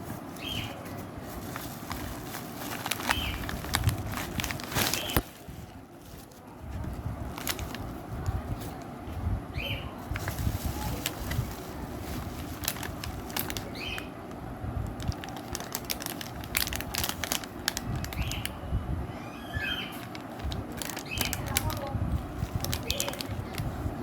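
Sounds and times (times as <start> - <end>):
handling clicks and crinkling: 0.0 - 8.9, 10.0 - 18.5, 19.9 - 23.8.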